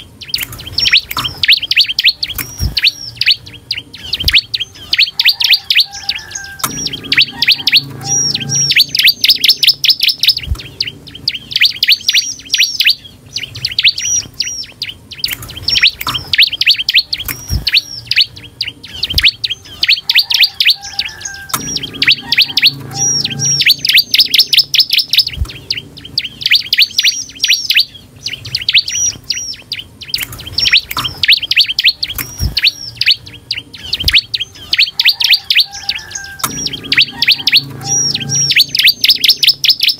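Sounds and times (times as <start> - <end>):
bird singing sharp chirps and trills: 0.0 - 39.9.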